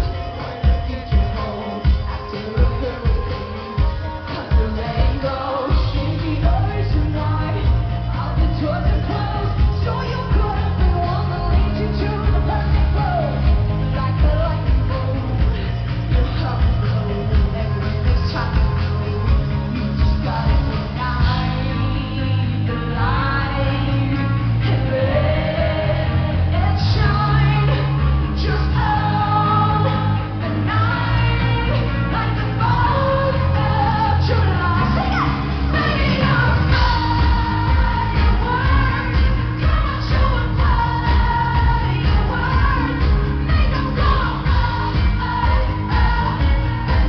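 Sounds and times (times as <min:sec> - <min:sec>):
rock band playing: 0:00.0 - 0:47.0
woman singing into microphone: 0:00.0 - 0:47.0.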